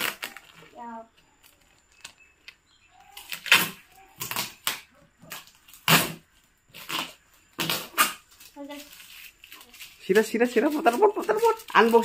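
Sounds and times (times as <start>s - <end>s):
packing tape ripping off cardboard: 0.0s - 0.8s, 1.4s - 12.0s.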